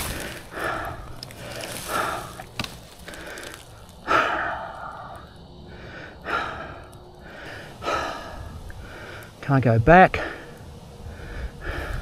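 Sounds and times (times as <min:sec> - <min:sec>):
man breathing heavily: 0:00.0 - 0:09.4, 0:10.1 - 0:12.0.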